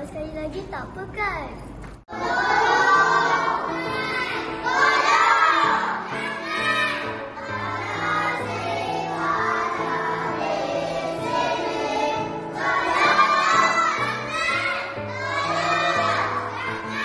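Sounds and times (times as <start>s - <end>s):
children singing: 2.1s - 17.0s.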